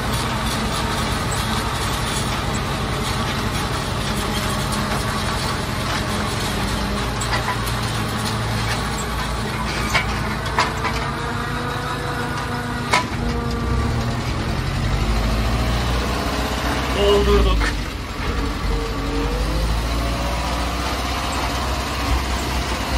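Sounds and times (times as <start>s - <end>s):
forage harvester chopping corn: 0.0s - 18.4s, 20.4s - 22.9s
tractor engines droning: 0.0s - 22.9s.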